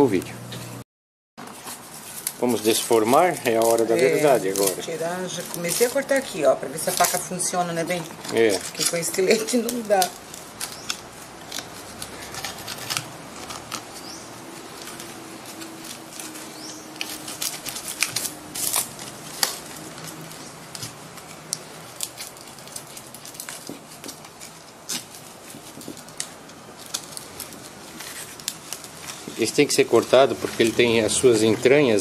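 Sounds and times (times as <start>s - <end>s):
knife cutting stiff plastic: 1.6s - 31.1s.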